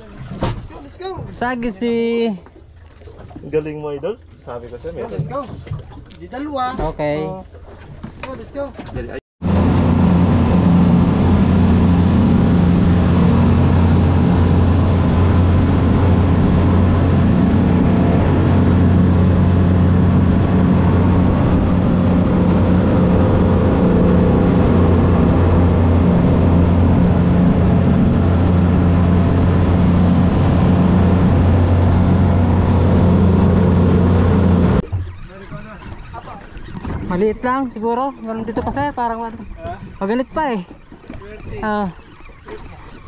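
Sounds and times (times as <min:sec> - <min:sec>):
outboard motor drone: 0:00.0 - 0:43.0
wake water rushing: 0:00.0 - 0:43.0.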